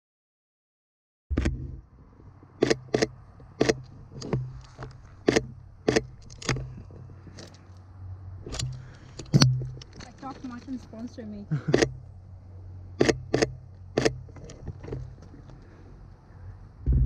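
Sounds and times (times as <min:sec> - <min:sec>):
steady low hum: 0:01.3 - 0:17.0.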